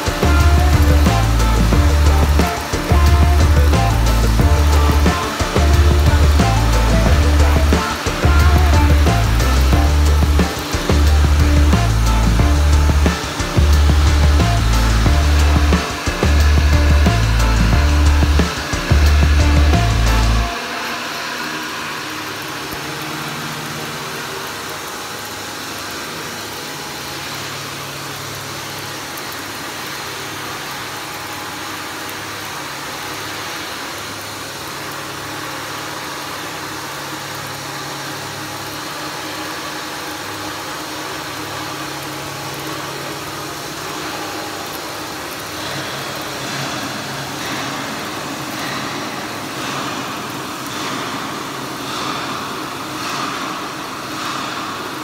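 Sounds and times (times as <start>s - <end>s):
low steady hum: 0.0s - 55.0s
welding arc crackling hiss: 0.0s - 55.0s.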